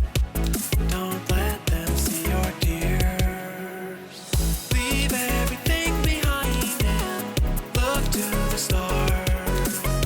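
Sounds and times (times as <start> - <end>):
punchy bass beat: 0.0 - 3.4, 4.4 - 10.0.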